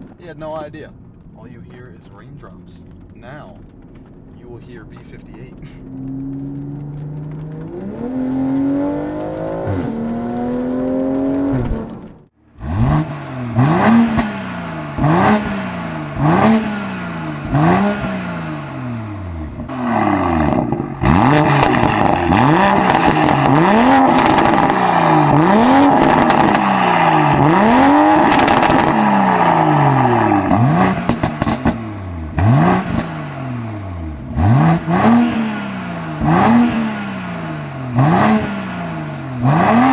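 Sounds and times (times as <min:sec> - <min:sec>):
car engine revving: 0:00.0 - 0:39.9
exhaust crackles and pops: 0:00.0 - 0:39.9.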